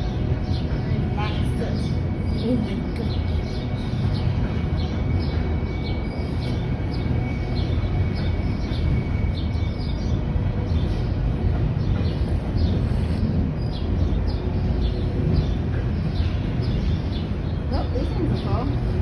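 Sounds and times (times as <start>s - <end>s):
train cars rumbling on rails: 0.0s - 19.0s.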